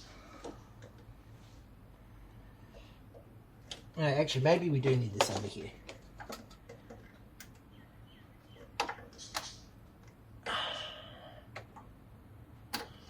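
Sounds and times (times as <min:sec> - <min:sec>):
faint clicks and knocks of parts: 0:00.0 - 0:01.6, 0:02.3 - 0:04.0, 0:04.8 - 0:10.4, 0:11.4 - 0:13.0.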